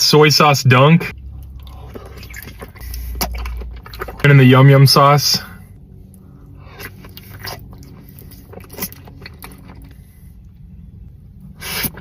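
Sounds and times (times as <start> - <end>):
mouth clicks and squelches: 1.1 - 4.8, 5.4 - 12.0
close-up chewing: 1.2 - 12.0.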